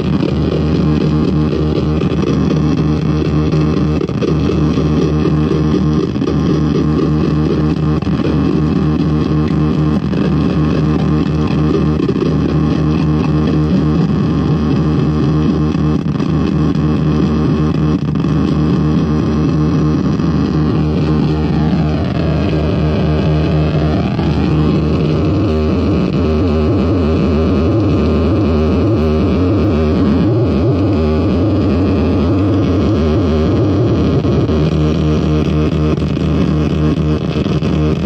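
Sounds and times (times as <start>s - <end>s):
distorted stuttering drum machine: 0.0s - 38.0s.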